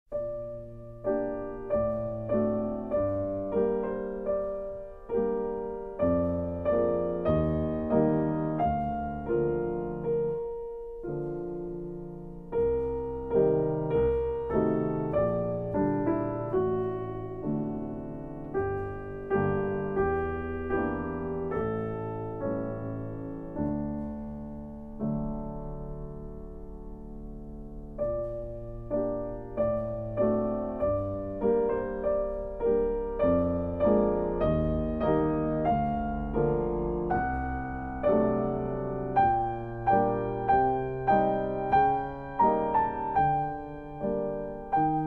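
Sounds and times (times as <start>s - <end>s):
slow solo piano: 0.1s - 45.0s.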